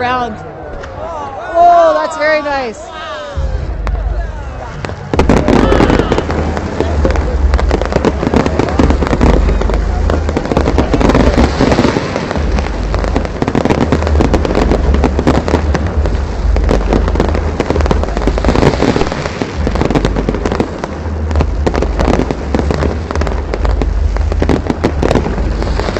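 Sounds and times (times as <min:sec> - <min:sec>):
deep fireworks booms: 0:03.4 - 0:25.9
fireworks pops and bangs: 0:04.7 - 0:25.9.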